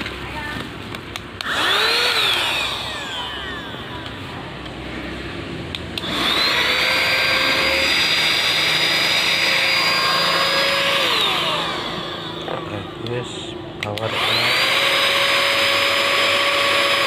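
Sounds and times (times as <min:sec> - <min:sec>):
handheld vacuum motor whine: 0:01.3 - 0:04.8, 0:05.9 - 0:13.1, 0:13.8 - 0:17.0.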